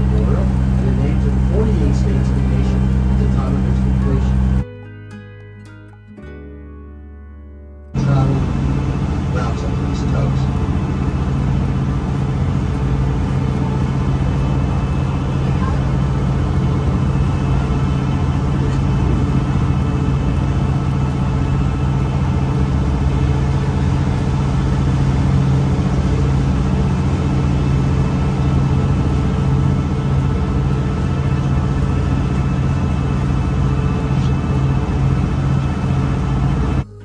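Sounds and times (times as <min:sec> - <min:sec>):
vehicle engine running steadily: 0:00.0 - 0:04.7, 0:08.0 - 0:37.0.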